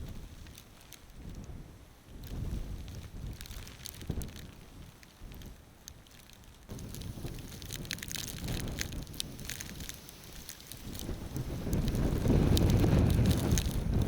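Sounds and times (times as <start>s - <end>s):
wind gusting against microphone: 0.0s - 6.1s, 6.7s - 14.0s
sharp ticks and crackles: 0.0s - 14.0s.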